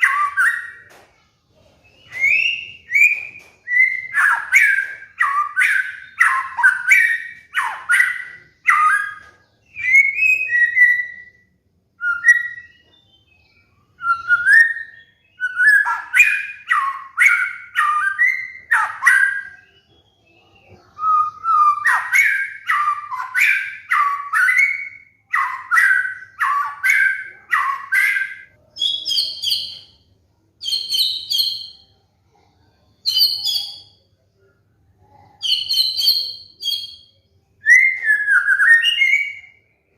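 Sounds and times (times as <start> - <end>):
bird singing whistled notes: 0.0 - 0.9, 1.9 - 30.0, 30.6 - 31.9, 33.0 - 34.0, 35.4 - 39.7.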